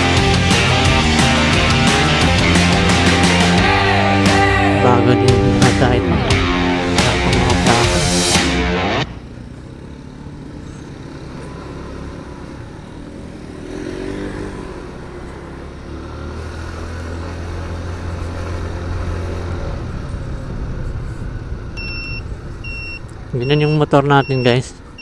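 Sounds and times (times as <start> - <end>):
road and wind noise: 0.0 - 25.0
scooter engine running: 0.0 - 25.0.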